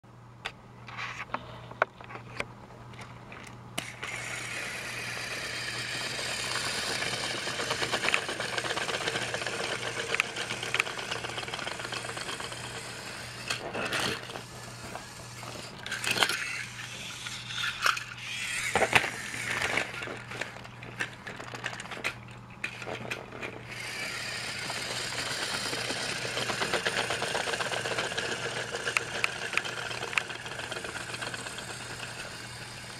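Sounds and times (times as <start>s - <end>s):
toy train motor whirring: 3.4s - 32.9s
wheels clicking and rattling: 4.1s - 32.9s.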